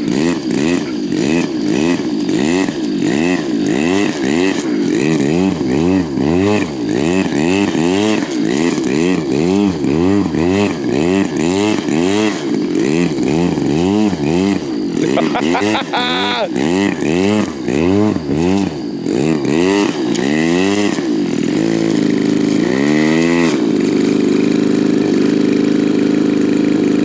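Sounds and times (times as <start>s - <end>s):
model plane engine running: 0.0s - 27.0s.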